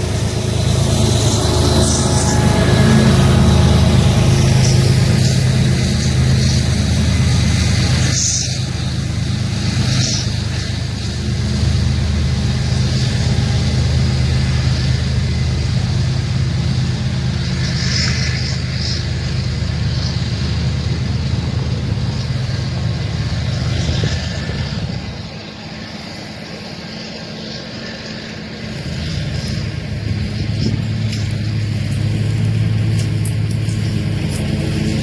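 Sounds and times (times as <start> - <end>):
diesel locomotive drone: 0.0 - 35.0
train wheels on rails: 0.0 - 35.0.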